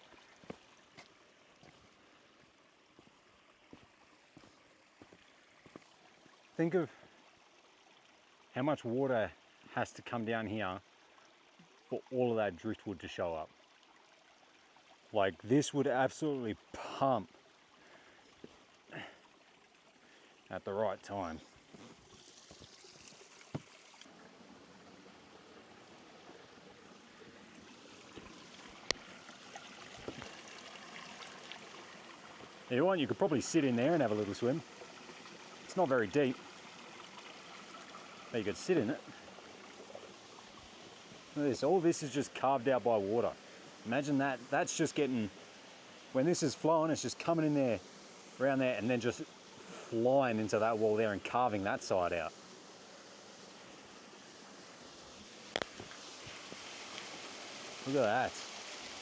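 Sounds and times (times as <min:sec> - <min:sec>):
faint flowing water: 0:00.0 - 0:59.0.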